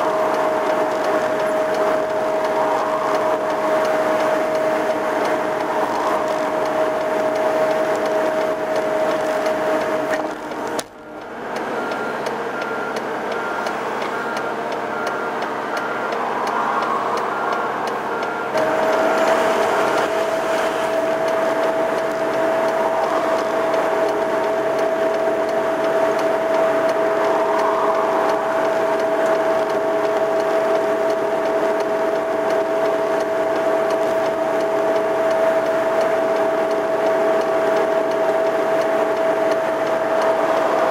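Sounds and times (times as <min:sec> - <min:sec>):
high whine: 0:00.0 - 0:40.9
road cleaning vehicle engine: 0:00.0 - 0:40.9.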